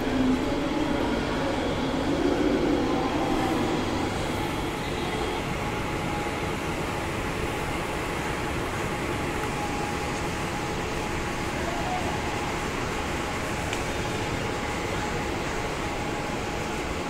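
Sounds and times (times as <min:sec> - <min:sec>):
train steady rumble: 0:00.0 - 0:17.0.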